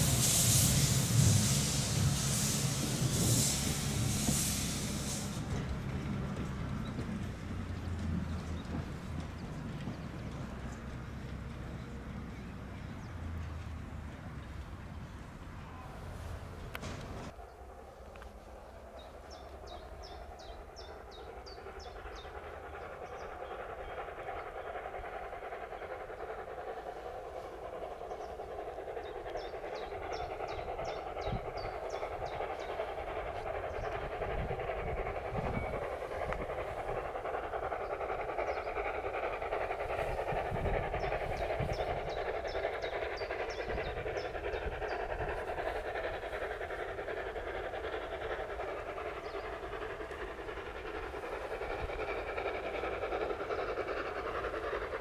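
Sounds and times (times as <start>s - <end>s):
train approaching: 0.0s - 55.0s.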